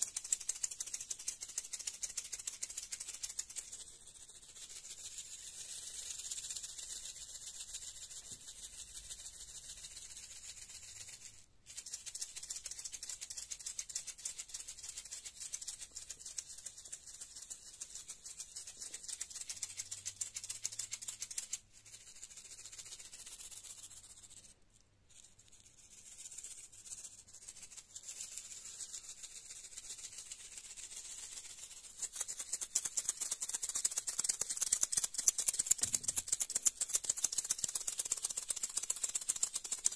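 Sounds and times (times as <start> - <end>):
maracas rattling: 0.0 - 39.9.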